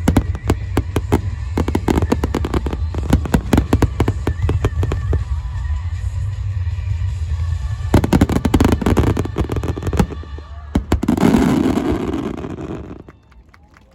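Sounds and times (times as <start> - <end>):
firework bangs: 0.0 - 6.4, 7.0 - 13.2
rapid crackling firework bursts: 0.0 - 13.2
low fireworks rumble: 0.0 - 13.9.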